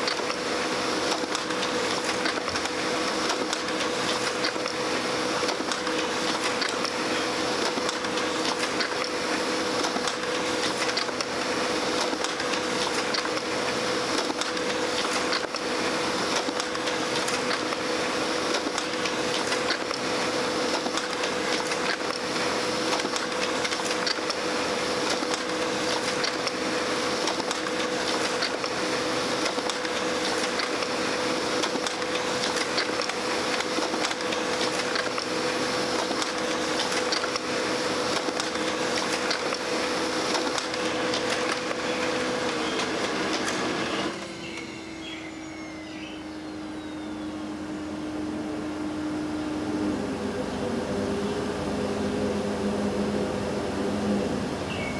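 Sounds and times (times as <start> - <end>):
laser printer whirring: 0.0 - 54.9.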